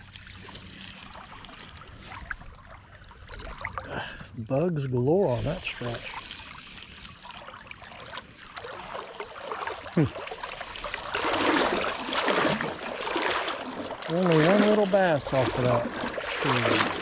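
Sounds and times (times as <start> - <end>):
creek water running and splashing: 0.0 - 4.2, 5.0 - 17.0.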